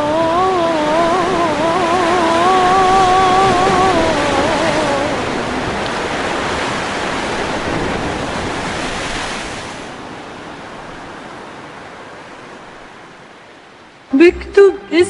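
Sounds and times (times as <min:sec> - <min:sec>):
waves washing: 0:00.0 - 0:13.3.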